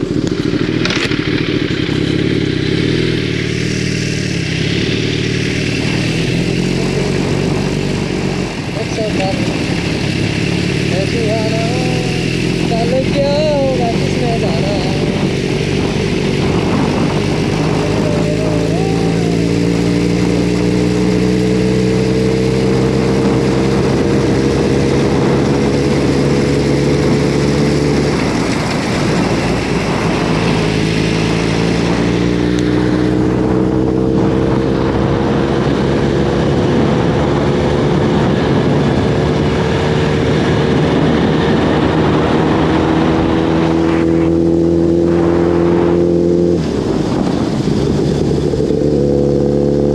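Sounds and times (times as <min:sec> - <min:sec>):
motorcycle engine running: 0:00.0 - 0:49.9
rushing wind noise: 0:00.0 - 0:49.9.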